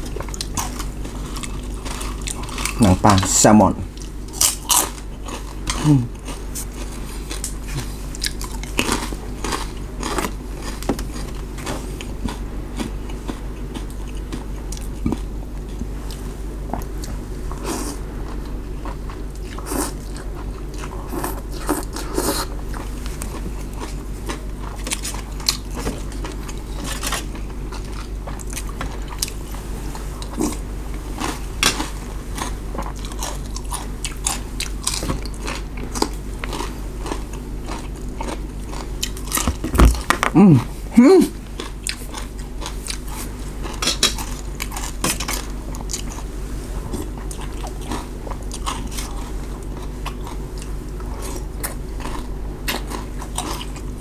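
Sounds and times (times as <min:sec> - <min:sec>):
chewing with crisp crunches: 0:00.0 - 0:40.6, 0:41.4 - 0:54.0
steady low hum: 0:00.0 - 0:54.0.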